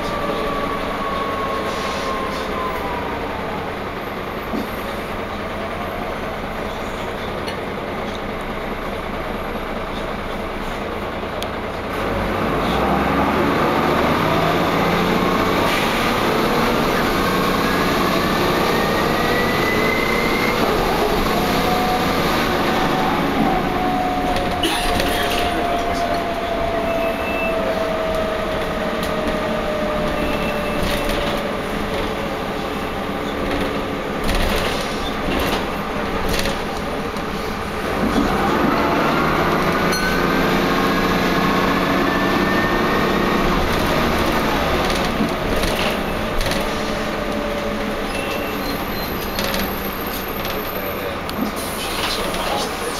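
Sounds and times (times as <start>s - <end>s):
bus running noise from inside: 0.0s - 52.9s.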